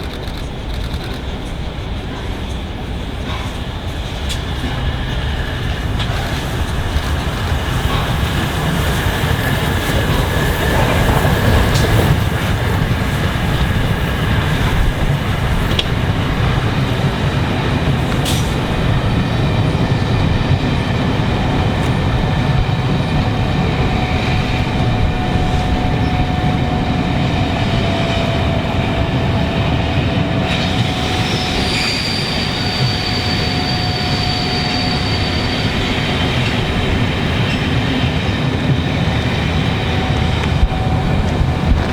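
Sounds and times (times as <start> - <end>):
train wheels rumbling on rail: 0.0 - 41.9
high wheel squeal: 4.3 - 38.0.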